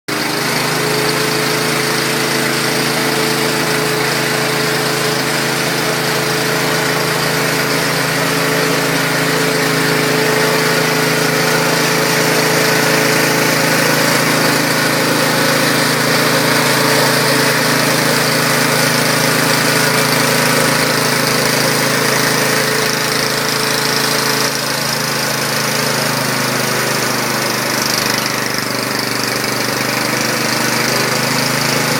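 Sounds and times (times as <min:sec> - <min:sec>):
generator engine running: 0:00.1 - 0:31.9.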